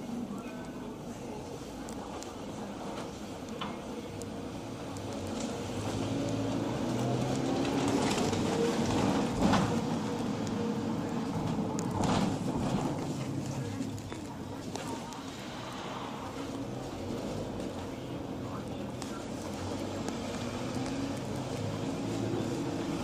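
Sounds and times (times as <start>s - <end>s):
minibus engine from inside: 2.4s - 23.0s.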